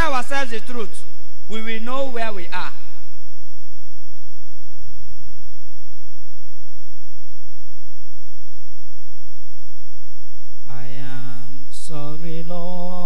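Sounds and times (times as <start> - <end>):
thin high whine: 0.7 - 12.3.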